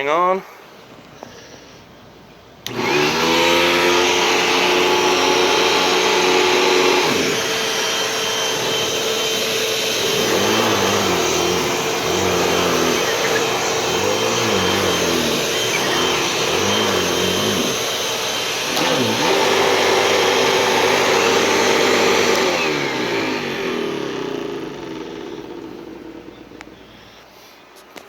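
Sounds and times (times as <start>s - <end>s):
vacuum cleaner running: 2.6s - 27.2s.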